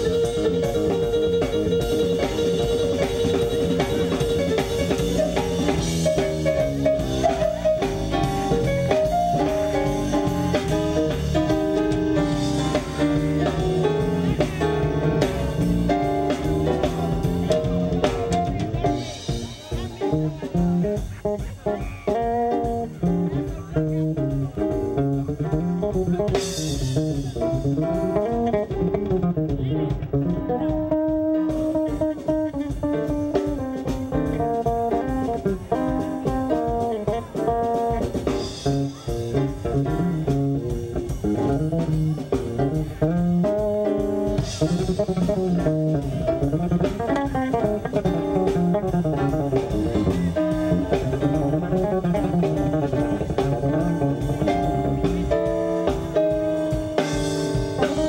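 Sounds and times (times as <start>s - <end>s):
blues band playing: 0.0s - 58.0s
electric bass guitar: 0.0s - 58.0s.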